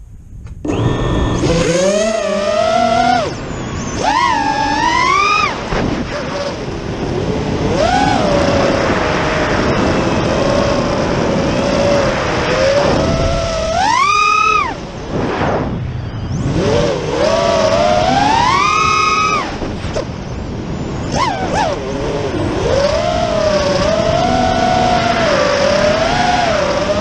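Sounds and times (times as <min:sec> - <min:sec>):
wind rush: 0:00.0 - 0:27.0
quadcopter motors whining: 0:00.6 - 0:27.0.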